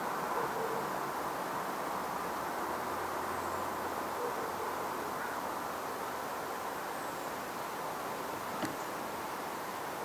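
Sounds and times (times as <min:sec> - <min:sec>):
outdoor ambient hiss: 0:00.0 - 0:10.0.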